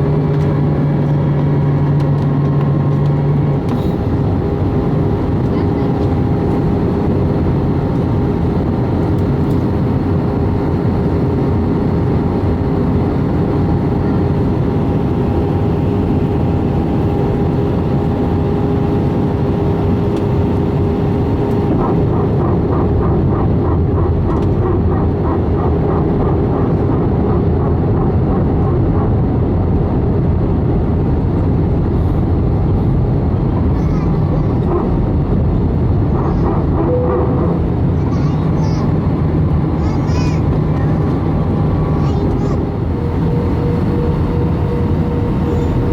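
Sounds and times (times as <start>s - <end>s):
airliner cabin engine noise: 0.0s - 45.9s
constant hum: 0.0s - 45.9s.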